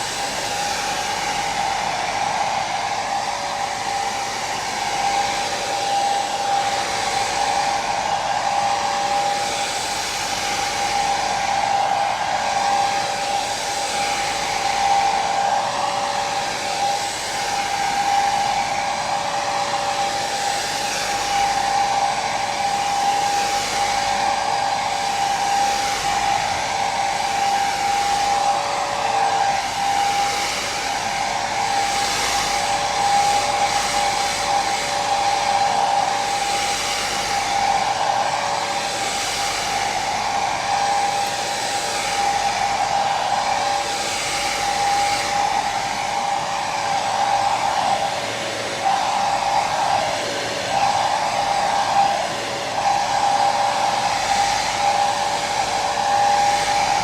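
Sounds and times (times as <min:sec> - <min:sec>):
hair dryer blowing: 0:00.0 - 0:57.0.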